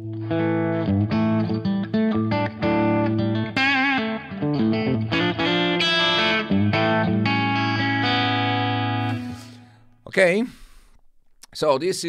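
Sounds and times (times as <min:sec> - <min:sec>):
lightly distorted electric guitar: 0:00.0 - 0:10.0.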